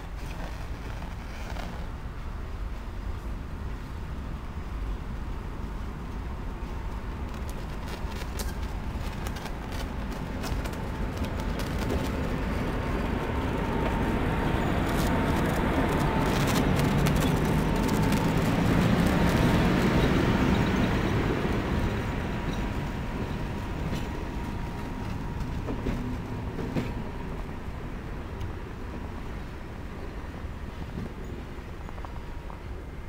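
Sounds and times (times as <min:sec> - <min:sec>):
train running noise: 0:00.0 - 0:33.0.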